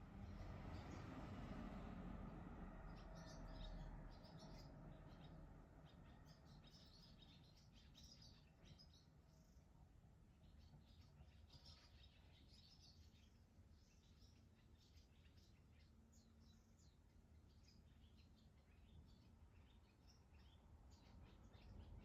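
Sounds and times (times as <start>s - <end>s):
swallows twittering: 2.8s - 9.6s, 10.3s - 22.0s.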